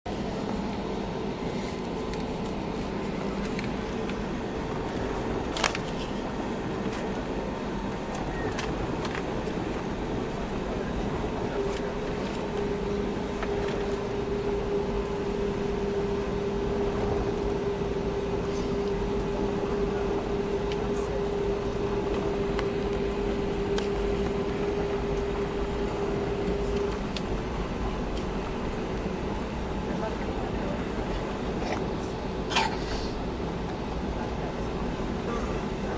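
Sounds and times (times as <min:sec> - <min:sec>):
airplane droning tone: 0:00.1 - 0:35.9.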